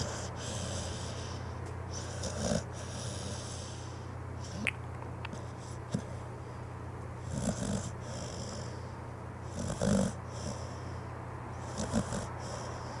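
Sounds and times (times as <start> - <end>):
dog snoring: 0.0 - 4.7, 5.3 - 6.6, 7.2 - 13.0.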